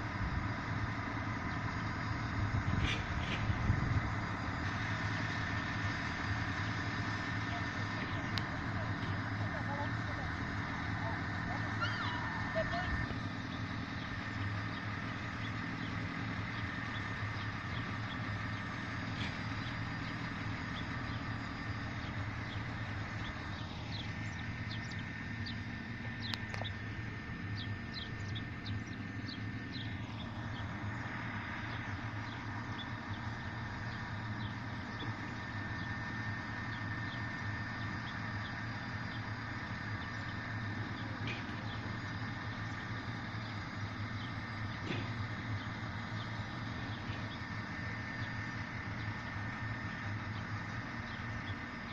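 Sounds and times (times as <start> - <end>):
railcar diesel engine idling: 0.0 - 51.9
birds chirping: 0.4 - 51.9.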